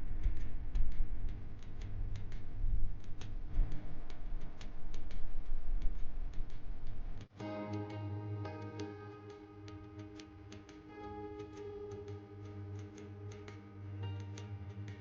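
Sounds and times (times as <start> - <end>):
sharp clicks: 0.2 - 15.0.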